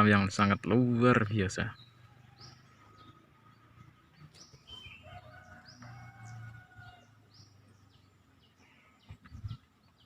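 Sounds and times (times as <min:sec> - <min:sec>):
birds whistling: 0:01.2 - 0:10.0.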